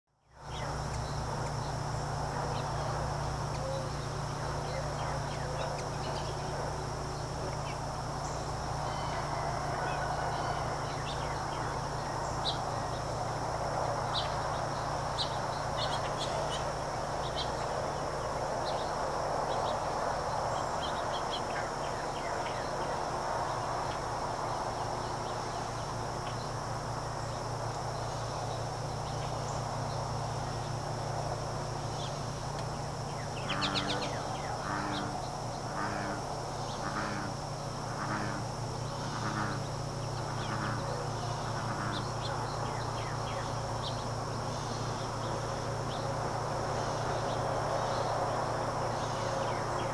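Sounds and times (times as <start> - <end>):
insect drone: 0.1 - 49.9
low steady hum: 0.2 - 49.9
rapid bird calls: 0.3 - 49.9.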